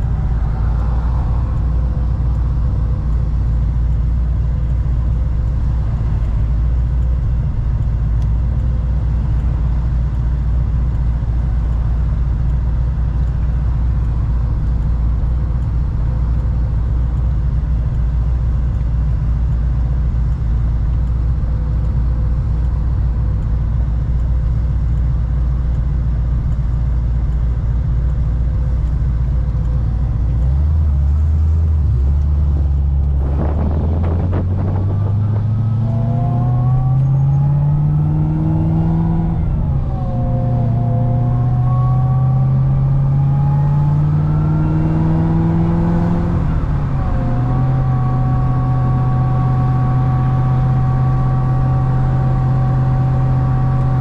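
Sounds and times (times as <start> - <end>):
car engine revving: 0.0 - 18.0, 28.1 - 54.0.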